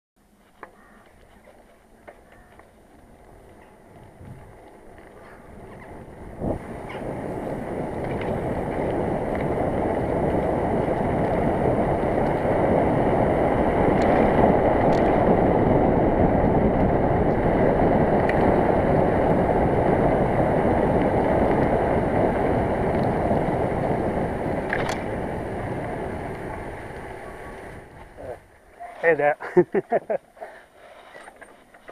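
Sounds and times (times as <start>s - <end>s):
bicycle tyres rumbling: 0.2s - 31.9s
wind rushing over microphone: 3.2s - 29.2s.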